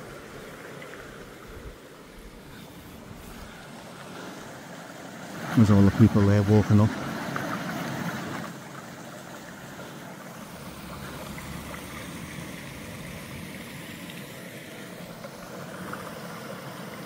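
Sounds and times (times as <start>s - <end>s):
floodwater rushing down drain: 0.0s - 17.0s.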